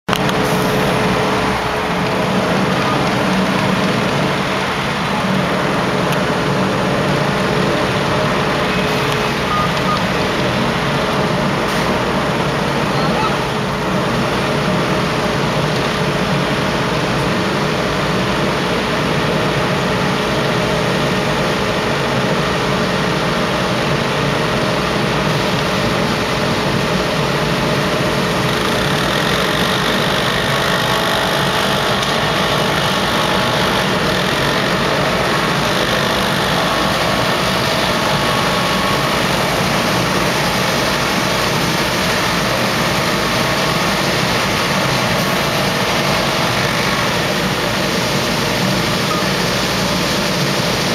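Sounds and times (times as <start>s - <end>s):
street sweeper droning: 0.1s - 50.9s.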